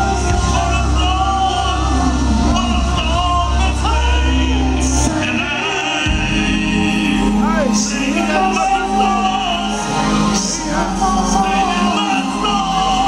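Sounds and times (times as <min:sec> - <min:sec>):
live band playing: 0:00.0 - 0:13.0
man and group singing: 0:00.0 - 0:13.0.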